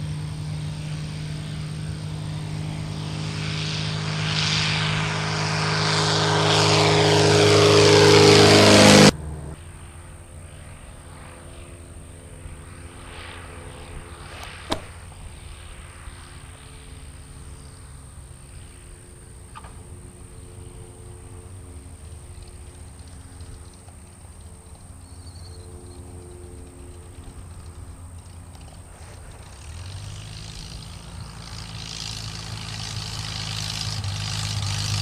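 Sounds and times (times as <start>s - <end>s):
faint engine hum: 0.0s - 35.0s
light plane propeller and engine: 0.0s - 35.0s.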